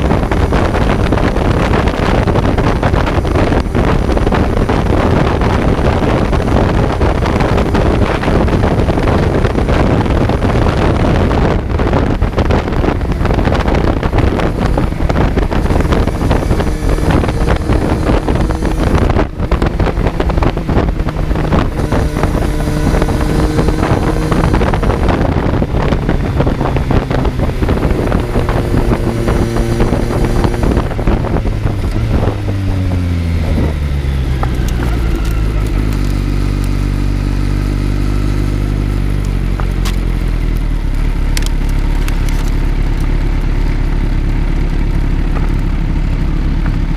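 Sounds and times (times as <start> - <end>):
motorcycle engine running: 0.0 - 46.9
wind rush on microphone: 0.0 - 46.9.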